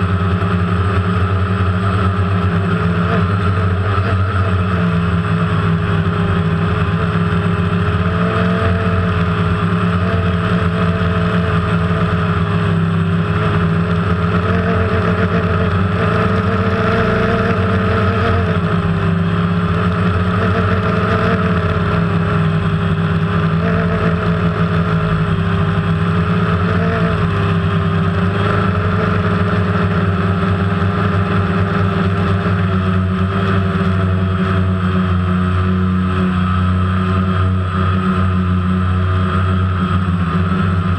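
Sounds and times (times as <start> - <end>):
drone propellers buzzing: 0.0 - 40.9.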